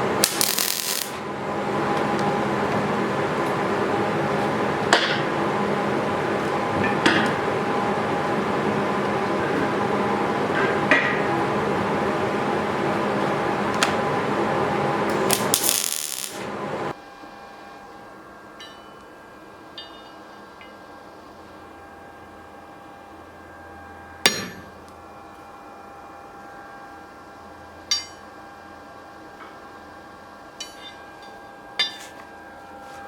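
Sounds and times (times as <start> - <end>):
workshop machine humming: 0.0 - 33.0.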